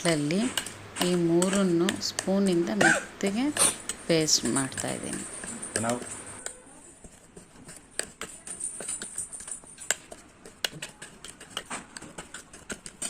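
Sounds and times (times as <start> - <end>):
spoon pounding in a bowl: 0.1 - 3.0, 3.8 - 13.0.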